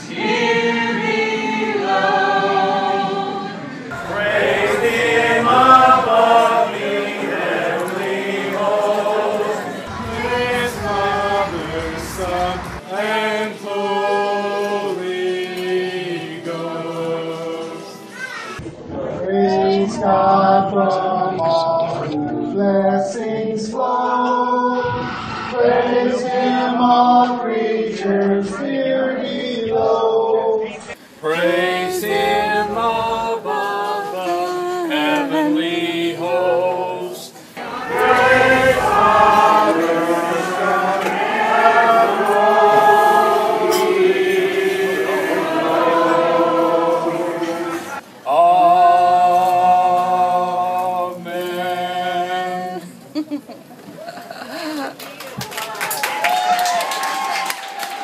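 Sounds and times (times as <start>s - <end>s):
group singing a cappella: 0.0s - 18.1s, 18.9s - 53.2s.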